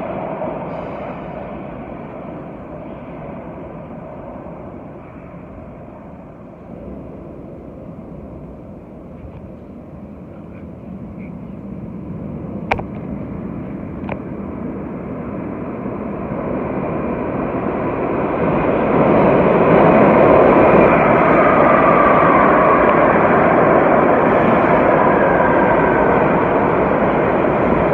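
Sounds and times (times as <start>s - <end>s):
subway train rumbling: 0.0s - 27.9s.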